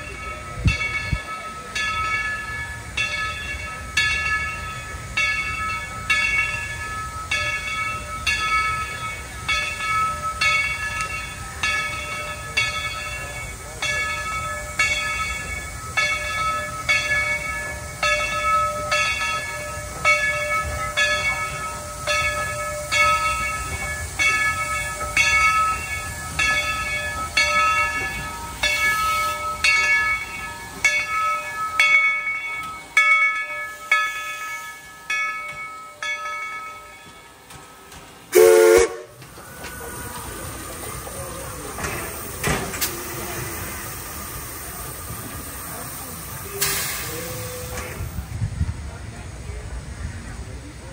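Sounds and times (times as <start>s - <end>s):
locomotive bell ringing: 0.0s - 48.3s
low rumble of train: 0.0s - 50.9s.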